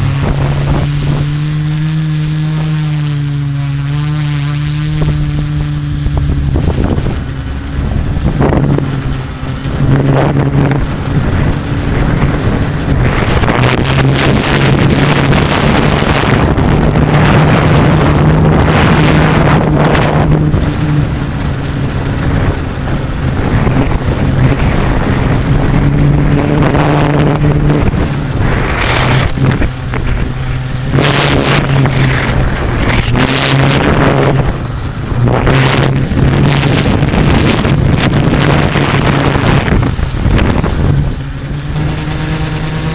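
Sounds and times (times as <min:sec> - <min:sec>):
drone propellers humming: 0:00.0 - 0:42.9
wind rushing over microphone: 0:00.0 - 0:42.9.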